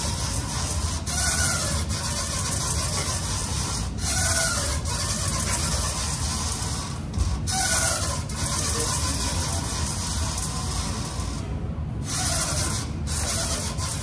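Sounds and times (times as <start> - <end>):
faint squeak: 0.0 - 11.4, 12.0 - 14.0
gym background hiss: 0.0 - 14.0
row machine rubbing and clicking: 0.0 - 14.0.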